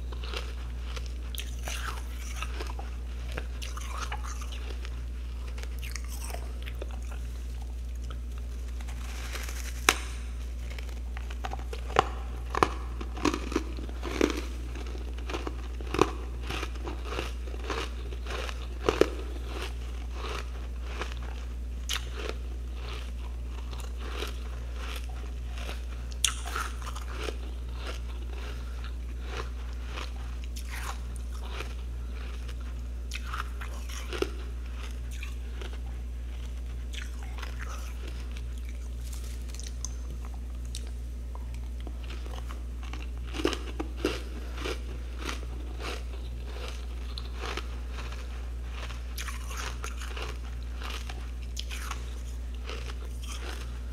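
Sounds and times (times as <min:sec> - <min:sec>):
crunching of freezer frost: 0:00.0 - 0:53.9
steady low hum: 0:00.0 - 0:53.9.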